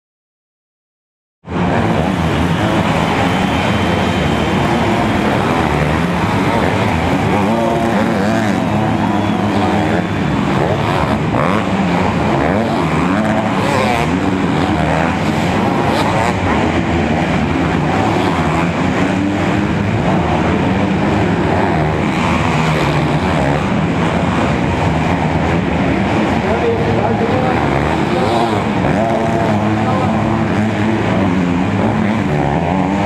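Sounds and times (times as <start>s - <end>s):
motocross bikes revving: 1.5s - 33.0s.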